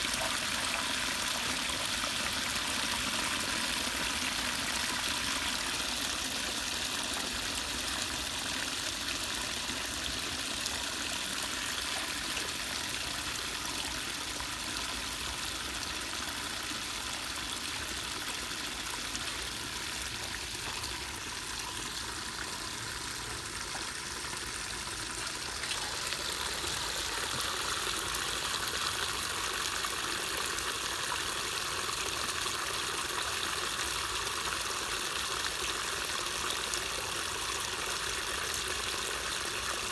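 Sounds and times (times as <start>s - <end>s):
water rushing through drain: 0.0s - 39.9s.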